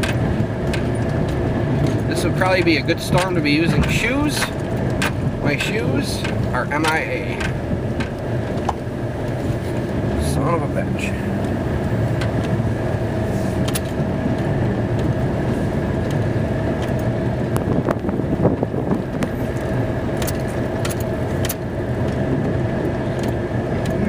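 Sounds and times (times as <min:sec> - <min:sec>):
engine whine: 0:00.0 - 0:24.0
truck engine running: 0:00.0 - 0:24.0.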